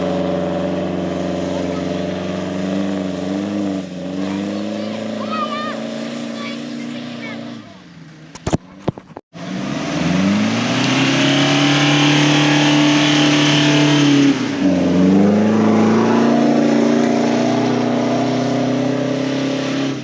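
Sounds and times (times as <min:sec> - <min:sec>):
jeep engine revving hard: 0:00.0 - 0:07.8, 0:09.4 - 0:20.0.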